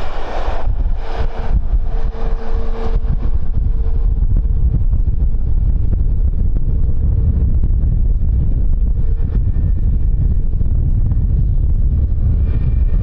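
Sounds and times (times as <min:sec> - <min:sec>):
distant aircraft engine hum: 0:00.0 - 0:13.0
wind buffeting microphone: 0:00.0 - 0:13.0.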